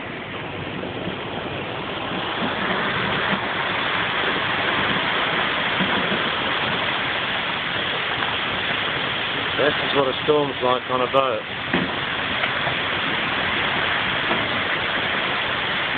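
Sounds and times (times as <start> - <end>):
rain and wind hissing: 0.0 - 15.9.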